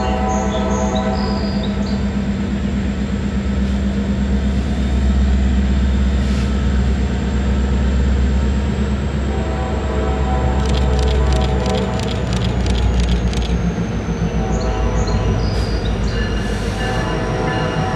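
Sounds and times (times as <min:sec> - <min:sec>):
diesel locomotive engines rumbling: 0:00.0 - 0:17.9.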